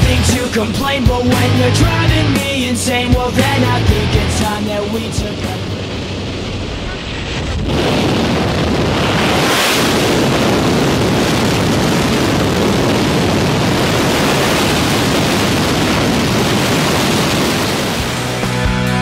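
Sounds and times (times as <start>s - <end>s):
aircraft engine noise: 0.0s - 19.0s
rushing wind: 0.0s - 19.0s
wind buffeting the microphone: 3.0s - 18.2s.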